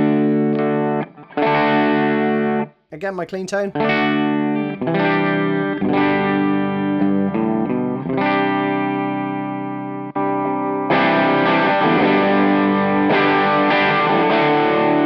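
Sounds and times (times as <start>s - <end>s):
electric guitar strummed chords: 0.0s - 2.7s, 3.7s - 15.0s.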